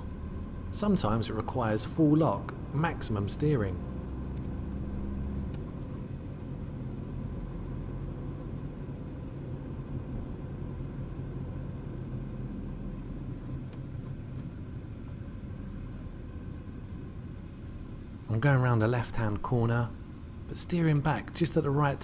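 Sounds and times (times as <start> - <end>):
car engine and tyres humming: 0.0 - 22.0.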